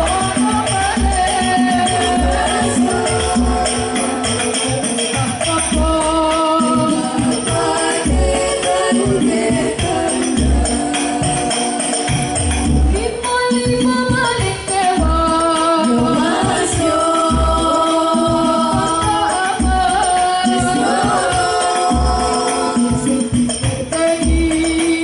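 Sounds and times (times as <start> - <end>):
girls singing together: 0.0 - 5.0, 5.7 - 25.0
frame drums: 0.0 - 25.0.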